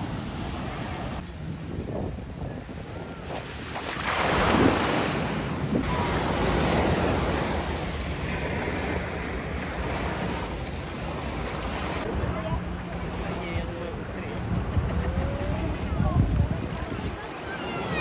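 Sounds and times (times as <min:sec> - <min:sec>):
wind rumbling on microphone: 0:00.0 - 0:17.5
sea waves on shore: 0:00.0 - 0:18.0.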